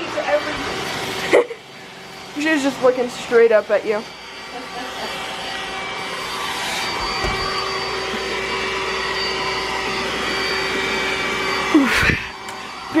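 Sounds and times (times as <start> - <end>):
robot vacuum motor hum: 2.0 - 13.0.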